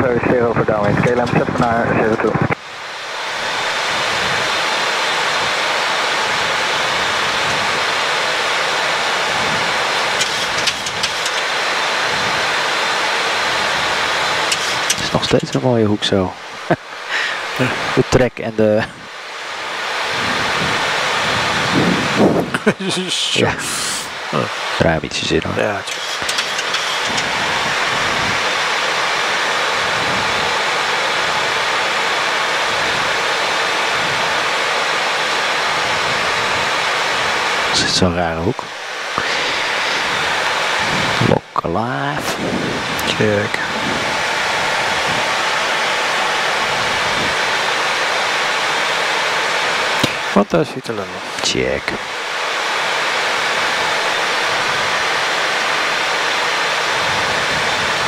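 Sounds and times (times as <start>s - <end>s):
rushing air in cockpit: 0.1s - 18.1s, 18.7s - 58.0s.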